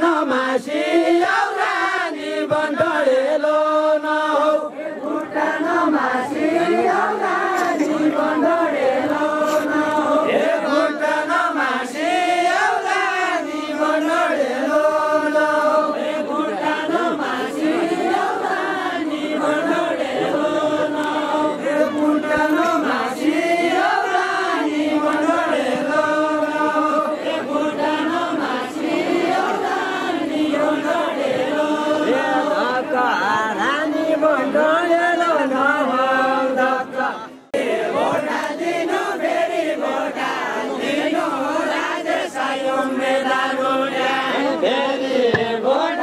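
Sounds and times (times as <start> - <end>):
group of voices singing: 0.0 - 46.0.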